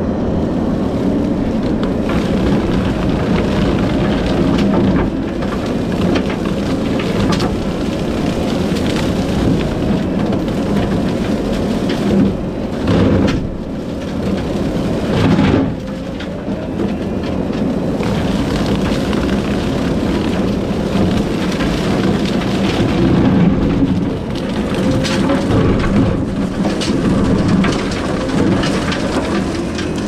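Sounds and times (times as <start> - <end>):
track loader rumble: 0.0 - 30.0
brush cutter churning: 1.0 - 30.0.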